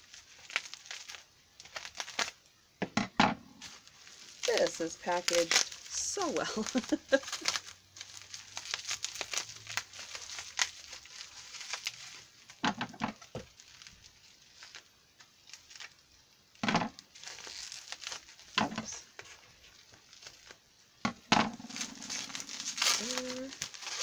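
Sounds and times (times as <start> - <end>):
plastic wrap crinkling: 0.0 - 2.6, 3.5 - 24.0.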